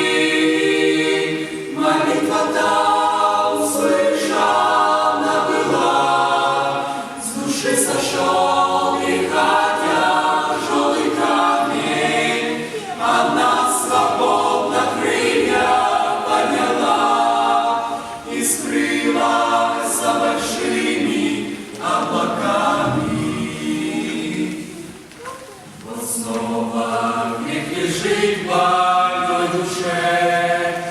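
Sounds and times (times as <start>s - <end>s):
choir singing a hymn: 0.0s - 30.9s.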